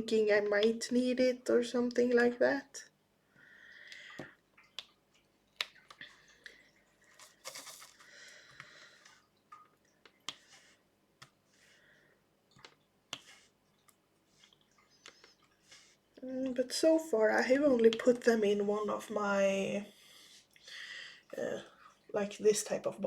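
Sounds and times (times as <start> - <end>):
soft rustling of small objects: 2.8 - 23.0.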